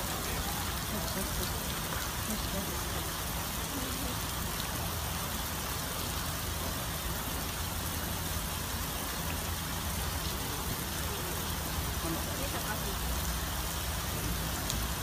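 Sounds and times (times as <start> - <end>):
constant hiss: 0.0 - 15.0.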